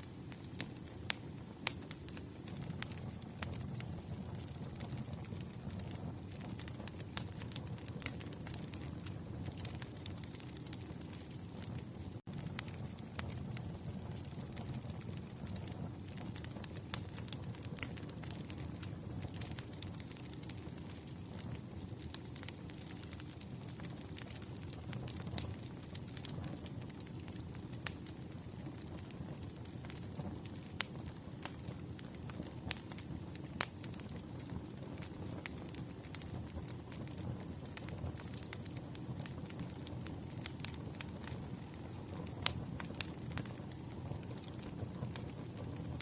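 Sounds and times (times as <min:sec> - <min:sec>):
logs crackling and popping: 0:00.0 - 0:46.0
wood fire rumble: 0:00.0 - 0:46.0.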